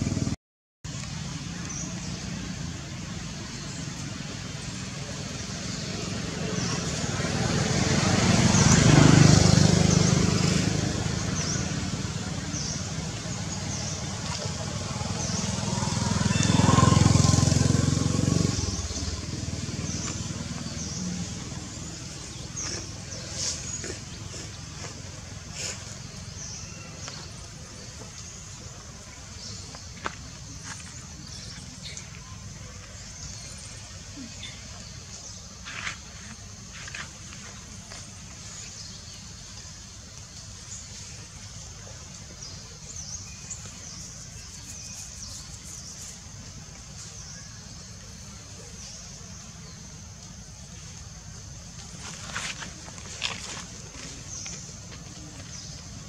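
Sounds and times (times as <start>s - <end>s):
vehicle engine rumbling: 0.0s - 56.0s
birds chirping: 0.9s - 56.0s.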